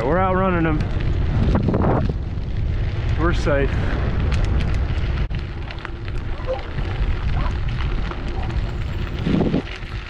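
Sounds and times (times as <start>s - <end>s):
bicycle tyres on gravel: 0.0s - 10.0s
wind rumbling on microphone: 0.0s - 10.0s.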